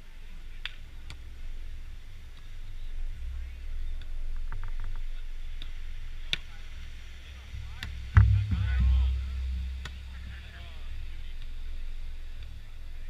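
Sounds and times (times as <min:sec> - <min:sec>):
wind rumble on microphone: 0:01.0 - 0:13.0.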